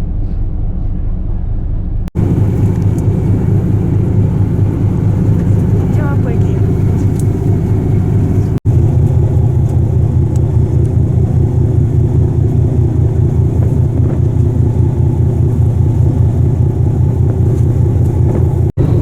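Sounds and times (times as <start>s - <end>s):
ship engine droning: 0.0s - 19.0s.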